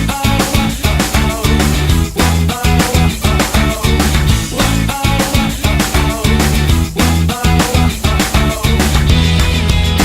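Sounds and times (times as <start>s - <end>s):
upbeat rock music: 0.0s - 10.0s.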